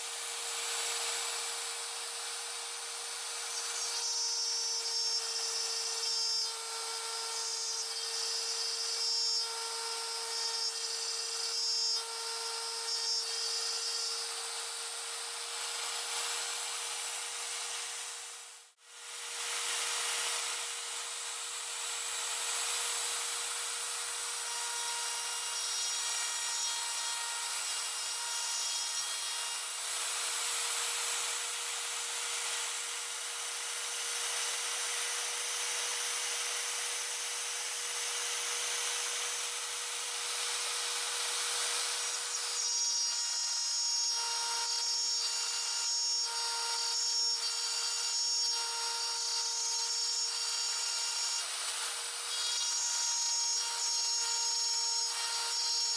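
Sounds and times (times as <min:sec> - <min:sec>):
bit cutting plywood: 0:00.0 - 0:55.9
router motor whine: 0:00.0 - 0:55.9.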